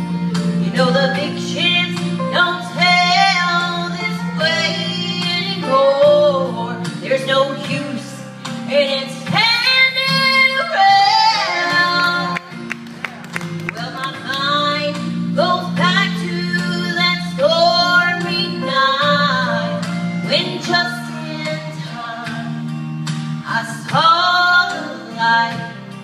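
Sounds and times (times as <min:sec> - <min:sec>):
instrumental accompaniment: 0:00.0 - 0:26.0
women singing: 0:00.8 - 0:12.5, 0:13.8 - 0:22.5, 0:23.5 - 0:25.7.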